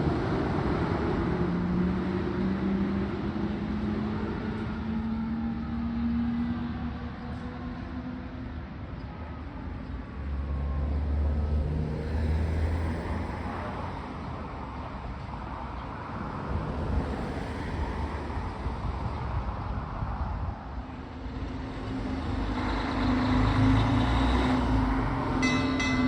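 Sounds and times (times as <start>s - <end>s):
road and tyre noise: 0.0s - 26.0s.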